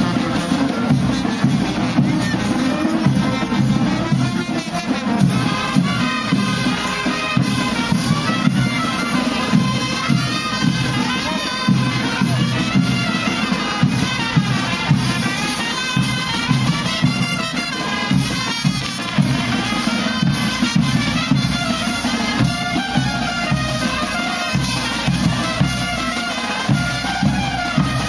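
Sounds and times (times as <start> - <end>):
brass band playing dance tune: 0.0 - 28.0.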